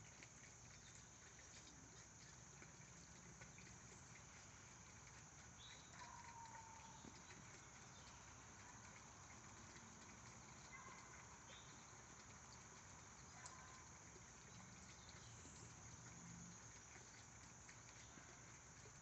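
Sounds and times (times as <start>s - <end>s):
soft ticks: 0.0s - 19.0s.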